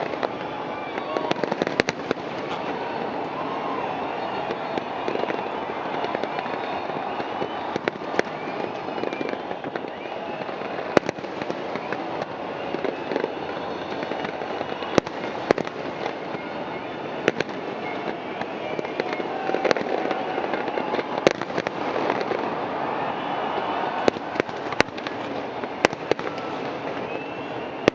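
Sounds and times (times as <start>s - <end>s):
firework bangs: 0.0s - 27.9s
fireworks crackling wash: 0.0s - 27.9s.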